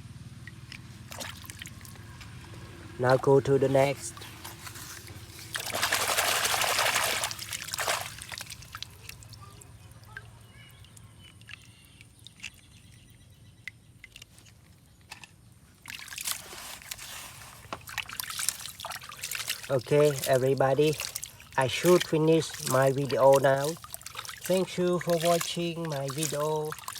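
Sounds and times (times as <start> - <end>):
water pouring and trickling: 0.4 - 26.9.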